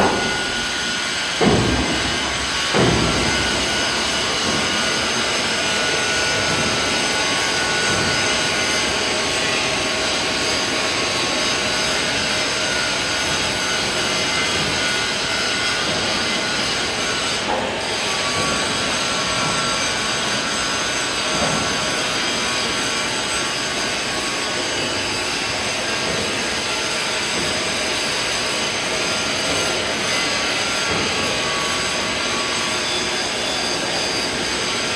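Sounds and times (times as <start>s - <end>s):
reactor agitator drive running: 0.0s - 34.9s.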